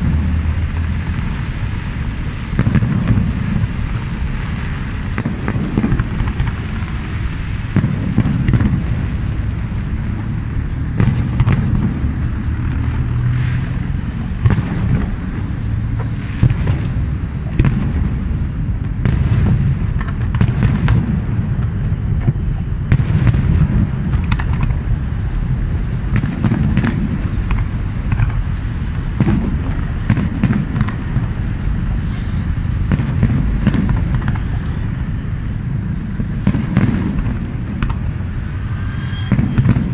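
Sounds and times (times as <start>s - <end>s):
firework booms and cracks: 0.0s - 39.9s
low rumble: 0.0s - 39.9s.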